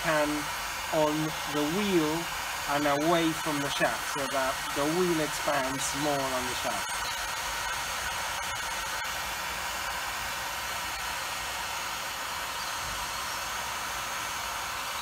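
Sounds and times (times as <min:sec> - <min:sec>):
heat gun hissing: 0:00.0 - 0:15.0.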